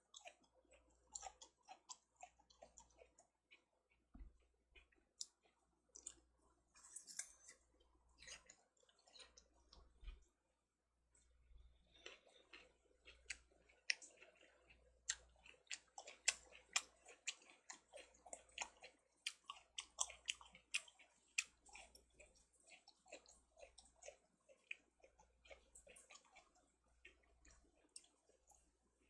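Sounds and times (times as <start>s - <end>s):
chewing melon with mouth clicks: 0.0s - 10.3s, 11.6s - 29.0s.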